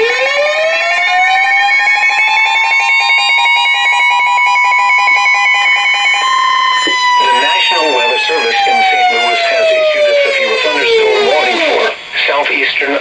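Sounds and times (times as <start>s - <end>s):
rising siren-like tone: 0.0s - 12.0s
rapidly pulsing tones: 2.5s - 13.0s.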